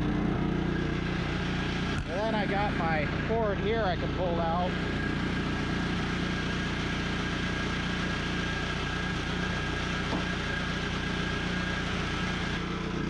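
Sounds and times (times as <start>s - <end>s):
generator engine running: 0.0s - 13.0s
steady whine: 0.0s - 13.0s.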